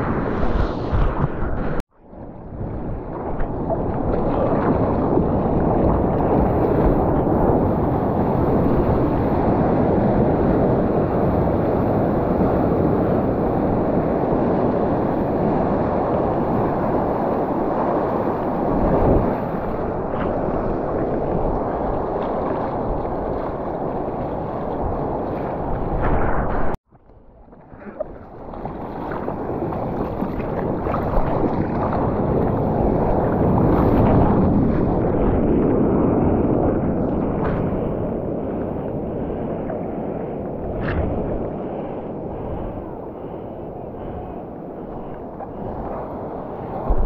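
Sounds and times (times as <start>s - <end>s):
rushing wind: 0.0s - 26.8s, 27.9s - 47.0s
surf: 0.0s - 47.0s.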